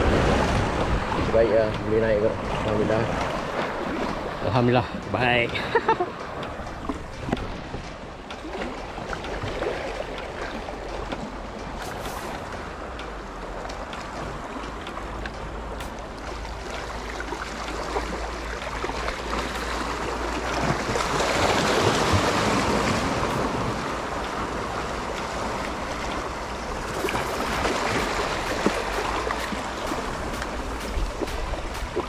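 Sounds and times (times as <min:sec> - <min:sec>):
sea waves washing against rocks: 0:00.0 - 0:32.0.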